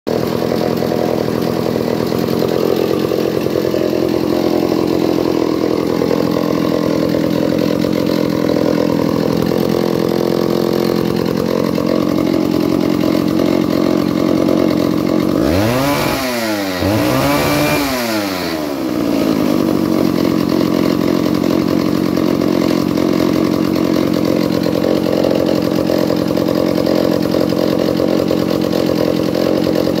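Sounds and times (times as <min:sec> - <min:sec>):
chainsaw idling: 0:00.1 - 0:30.0
chainsaw throttle revving: 0:00.1 - 0:30.0.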